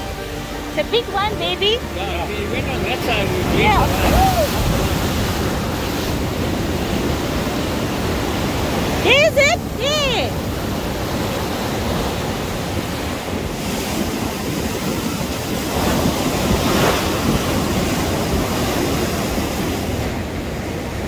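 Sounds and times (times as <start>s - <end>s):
ocean surf: 0.0s - 21.0s
wind: 0.0s - 21.0s.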